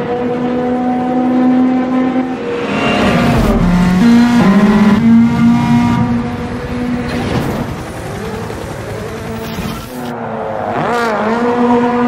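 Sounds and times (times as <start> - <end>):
high-revving car engine: 0.0 - 12.0.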